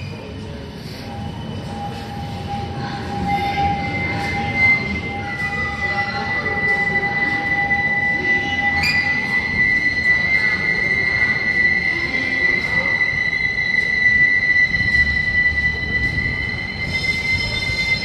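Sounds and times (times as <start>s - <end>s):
tram low rumble: 0.0s - 18.0s
tram wheels squealing: 0.0s - 18.0s.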